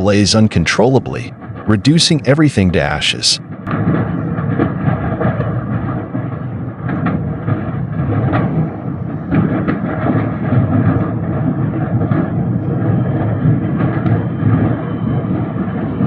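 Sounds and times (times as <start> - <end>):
fire popping and cracking: 0.0 - 16.0
fire roaring: 0.0 - 16.0.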